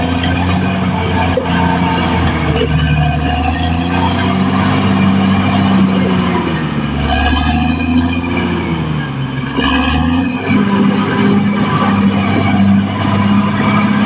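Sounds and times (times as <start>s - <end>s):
bulldozer diesel engine rumble: 0.0s - 14.0s.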